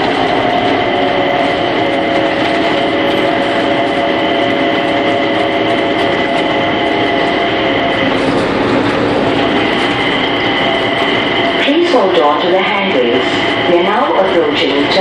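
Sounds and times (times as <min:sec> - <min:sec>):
drive whining tones: 0:00.0 - 0:15.0
train running rumble: 0:00.0 - 0:15.0.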